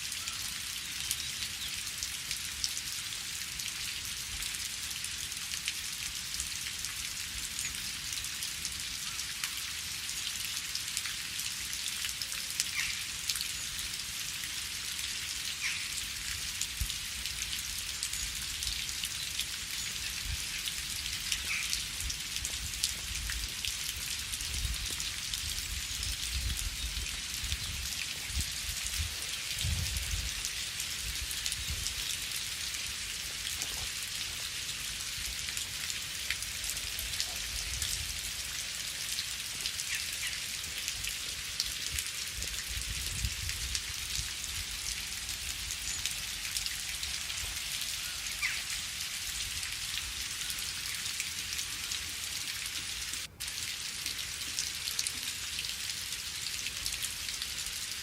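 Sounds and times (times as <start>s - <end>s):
rain hiss: 0.0s - 58.0s.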